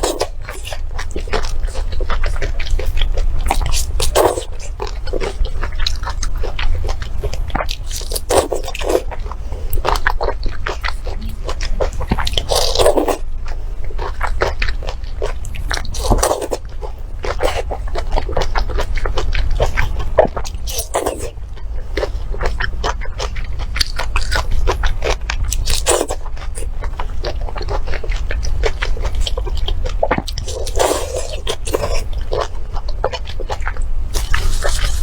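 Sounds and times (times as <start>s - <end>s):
biting and chewing with crunches: 0.0s - 35.0s
steady low hum: 0.0s - 35.0s.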